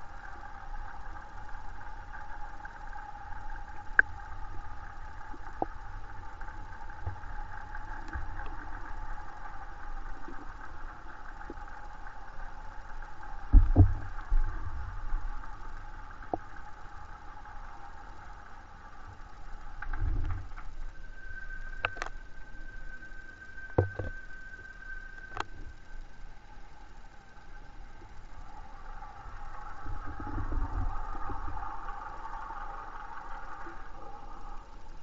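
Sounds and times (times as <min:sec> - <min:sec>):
underwater hum and rumble: 0:00.0 - 0:35.0.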